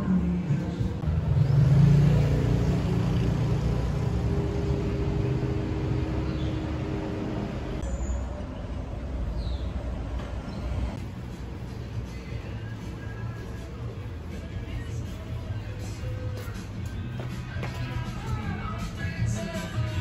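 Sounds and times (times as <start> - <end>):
large vehicle engine rumbling: 0.0 - 19.4
street traffic: 0.0 - 20.0.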